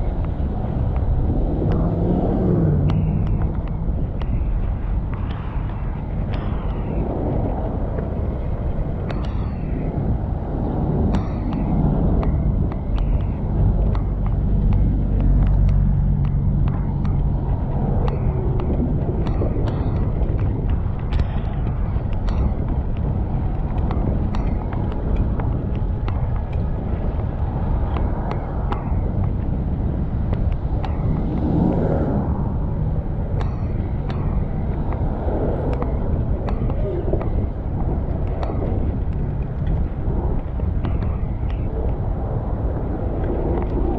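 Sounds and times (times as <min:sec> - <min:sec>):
motor vehicle running: 0:00.0 - 0:43.9
wind and road rumble: 0:00.0 - 0:43.9.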